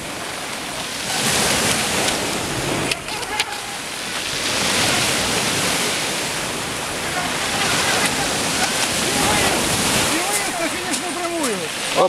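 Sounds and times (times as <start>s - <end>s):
sea surf washing onto shore: 0.0s - 12.0s.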